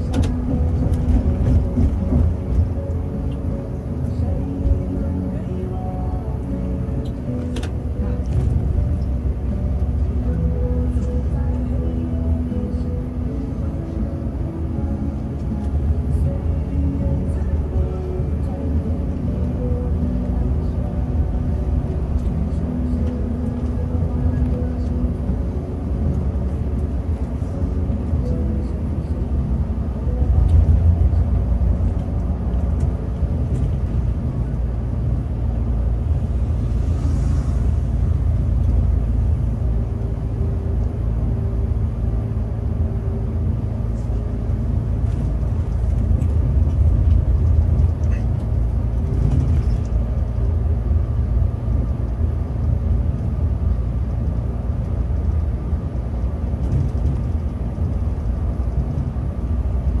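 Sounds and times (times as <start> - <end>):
diesel engine rumble: 0.0 - 60.0
road noise: 0.0 - 60.0.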